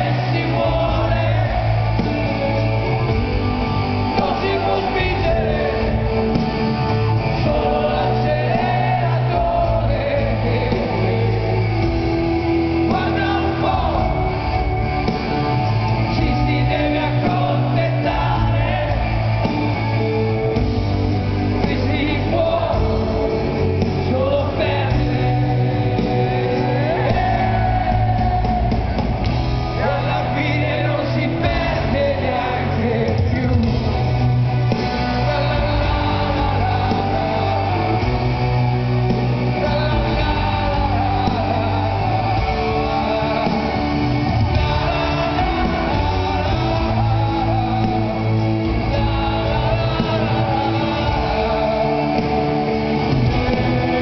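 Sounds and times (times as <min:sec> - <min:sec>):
live rock band: 0:00.0 - 0:54.0
man singing: 0:00.0 - 0:54.0.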